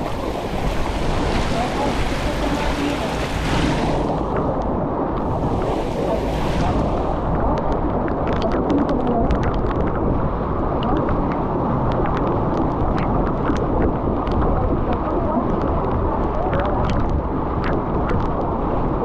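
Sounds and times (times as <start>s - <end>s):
storm wind on microphone: 0.0s - 19.0s.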